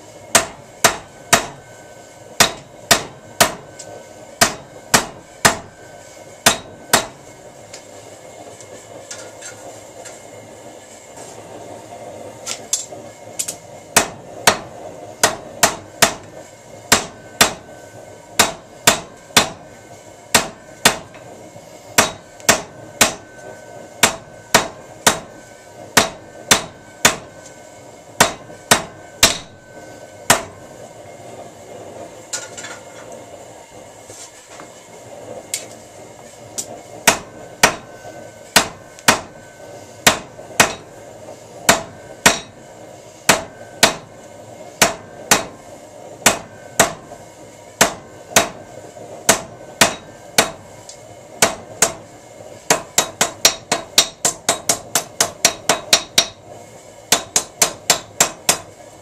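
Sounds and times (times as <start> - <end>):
hammer blows on hot steel: 0.0 - 10.6, 12.3 - 33.1, 34.6 - 56.5, 57.1 - 58.8.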